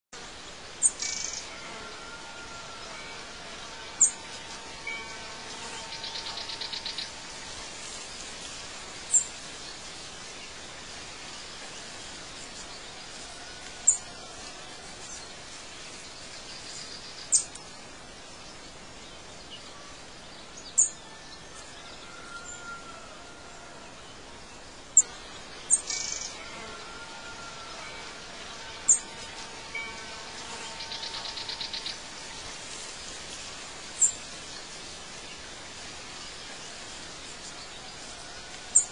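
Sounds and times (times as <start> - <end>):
steady background hiss: 0.2 - 38.9.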